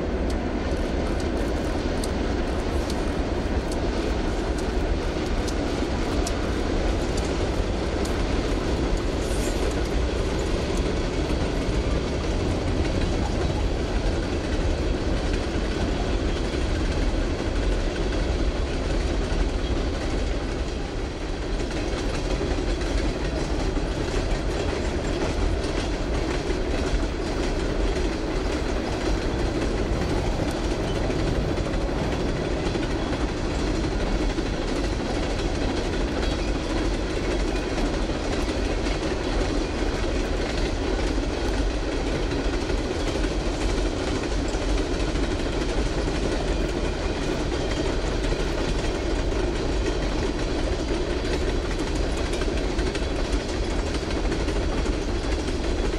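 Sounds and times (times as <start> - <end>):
freight train wheels rumbling on rails: 0.0 - 55.9.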